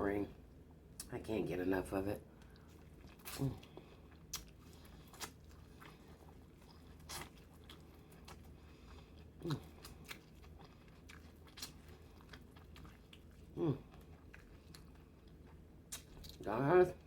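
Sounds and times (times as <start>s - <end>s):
chewing and lip-smacks: 2.3s - 17.0s.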